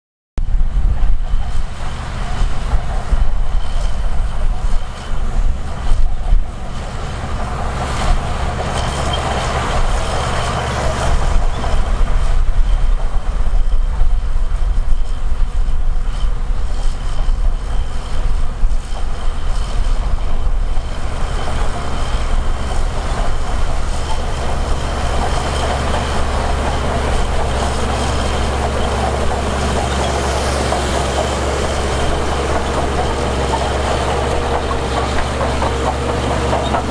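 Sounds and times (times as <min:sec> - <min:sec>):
diesel engine rumble: 0:00.4 - 0:36.9.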